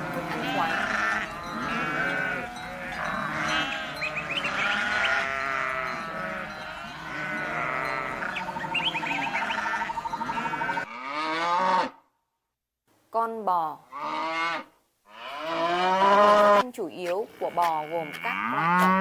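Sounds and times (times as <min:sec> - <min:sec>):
goats bleating: 0:00.0 - 0:11.2, 0:13.9 - 0:19.0.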